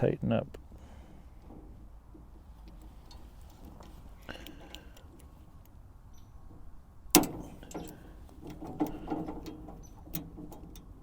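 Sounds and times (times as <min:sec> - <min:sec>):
tool clicks and clunks: 0:01.4 - 0:11.0.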